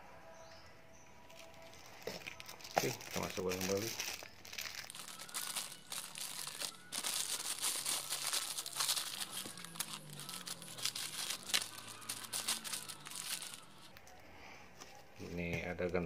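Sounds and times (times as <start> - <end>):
plastic packaging crinkling: 1.3 - 14.2.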